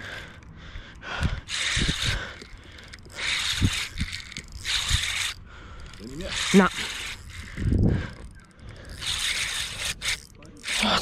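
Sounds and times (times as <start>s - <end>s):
spinning reel winding: 1.4s - 11.0s.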